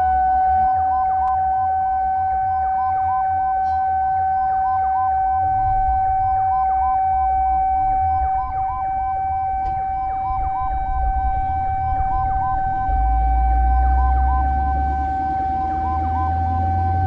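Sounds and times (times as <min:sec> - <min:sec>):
emergency siren: 0:00.0 - 0:17.0
low rumble: 0:00.0 - 0:17.0.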